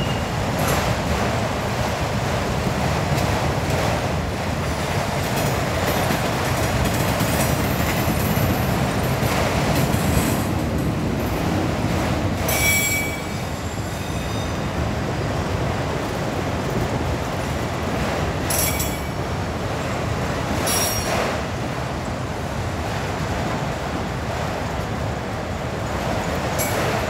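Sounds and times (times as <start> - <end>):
train wheels rolling on track: 0.0 - 27.0.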